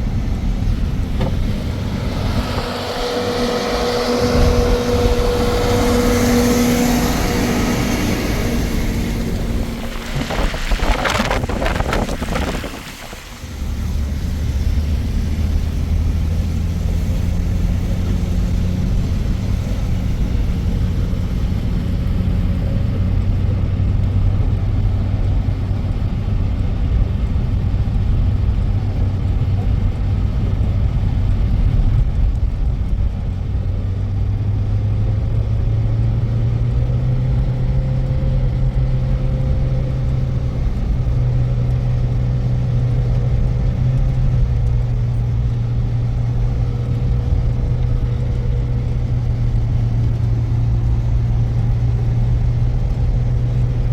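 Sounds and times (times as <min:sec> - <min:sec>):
vehicle engine humming: 0:00.0 - 0:53.9.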